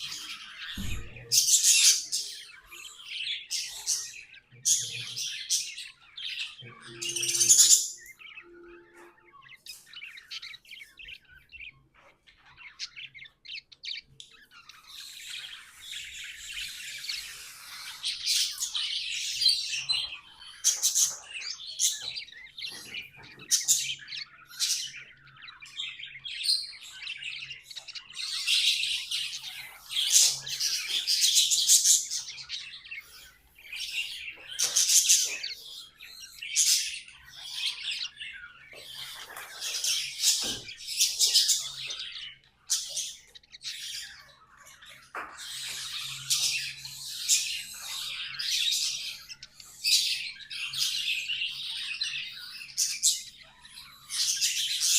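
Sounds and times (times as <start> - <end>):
budgerigars chirping and warbling: 0.0 - 54.9.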